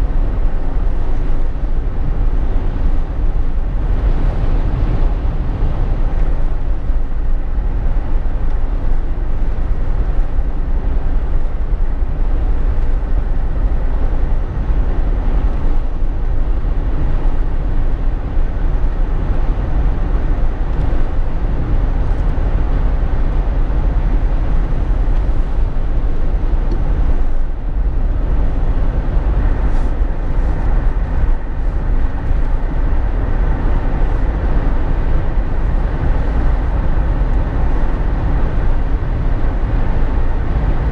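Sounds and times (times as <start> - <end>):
car cabin driving drone: 0.0 - 40.9.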